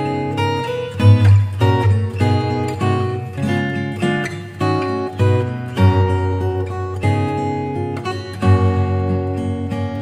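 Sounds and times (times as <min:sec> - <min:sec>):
strummed acoustic guitar chords: 0:00.0 - 0:10.0.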